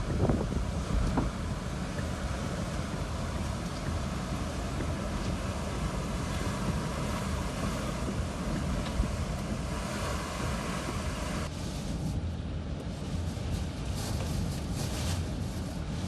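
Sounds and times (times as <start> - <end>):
strong wind blowing: 0.0 - 16.0
wind buffeting microphone: 0.0 - 16.0.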